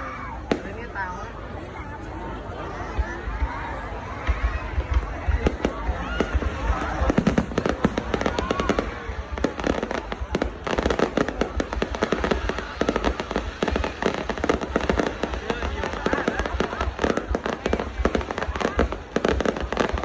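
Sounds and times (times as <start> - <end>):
fireworks cracking and popping: 2.9 - 20.0.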